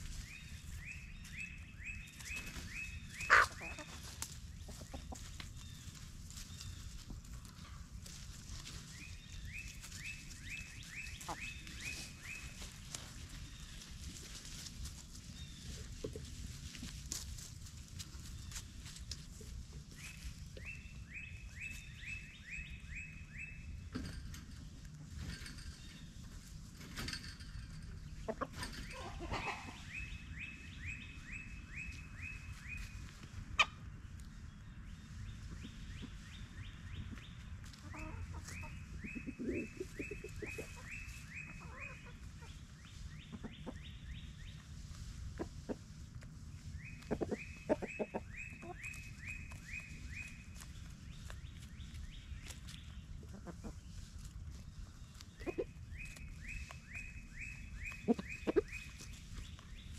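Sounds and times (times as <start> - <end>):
chickens clucking: 0.0 - 59.9
scratching and rustling in leaves: 0.0 - 59.9.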